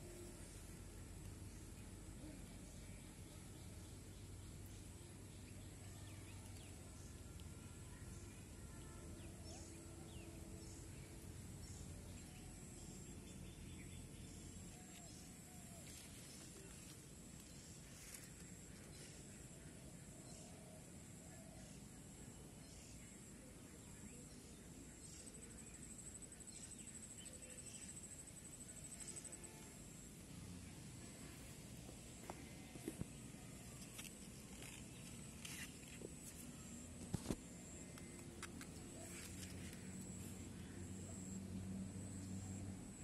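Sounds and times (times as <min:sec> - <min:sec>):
faint field ambience: 0:00.0 - 0:43.0
low steady hum: 0:00.0 - 0:43.0.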